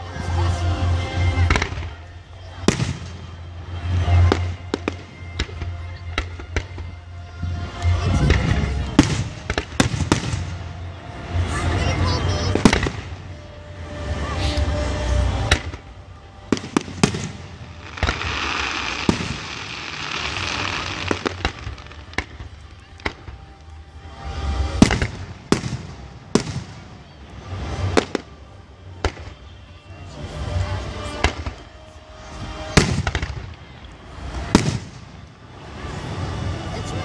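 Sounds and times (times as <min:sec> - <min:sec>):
fireworks crackling hiss: 0:00.0 - 0:37.0
fireworks bursting with bangs: 0:00.6 - 0:36.9.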